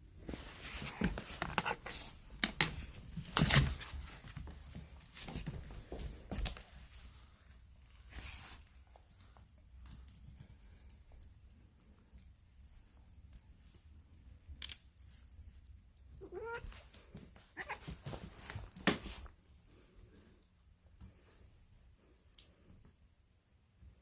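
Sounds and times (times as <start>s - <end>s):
clicks and rustles: 0.3s - 19.8s.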